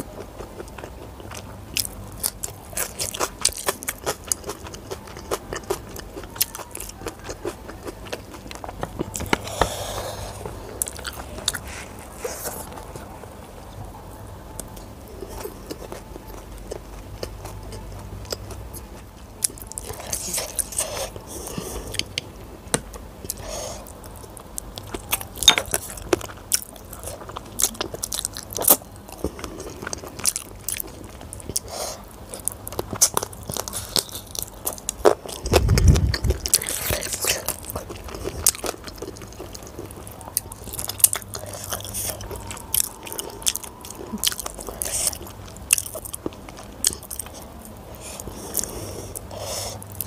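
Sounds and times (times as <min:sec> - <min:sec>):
chewing and biting food: 0:00.0 - 0:13.8, 0:14.5 - 0:50.0.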